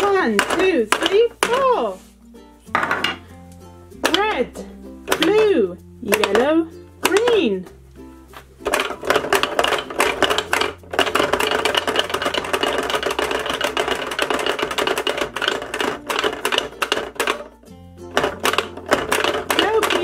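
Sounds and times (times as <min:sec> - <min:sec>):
plastic toy buttons clattering: 0:00.0 - 0:01.6, 0:04.0 - 0:07.6, 0:08.6 - 0:20.0
wooden dolls knocking: 0:00.0 - 0:02.1, 0:02.7 - 0:03.4, 0:04.0 - 0:07.8, 0:08.4 - 0:20.0.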